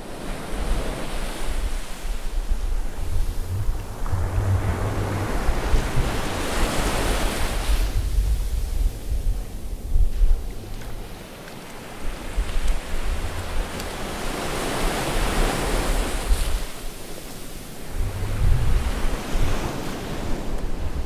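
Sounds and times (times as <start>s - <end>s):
ocean waves washing in: 0.0s - 21.0s
wind buffeting microphone: 0.0s - 21.0s.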